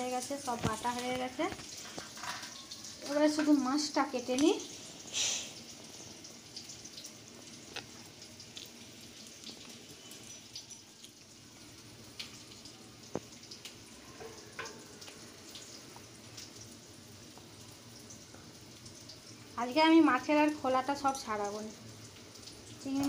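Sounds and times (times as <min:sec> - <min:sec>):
water dripping: 0:00.0 - 0:23.0.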